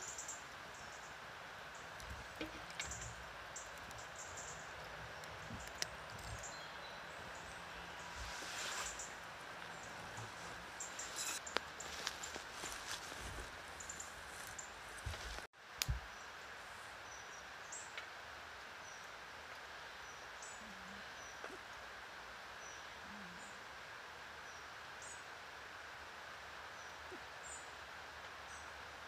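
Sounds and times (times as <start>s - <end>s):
small birds chirping: 0.0s - 23.7s
steady background hiss: 0.0s - 29.0s.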